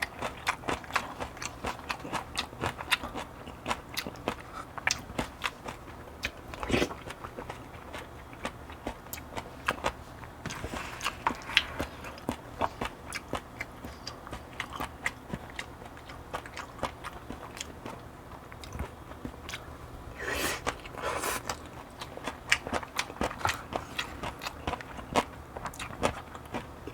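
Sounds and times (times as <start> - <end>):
person chewing food: 0.0 - 26.9.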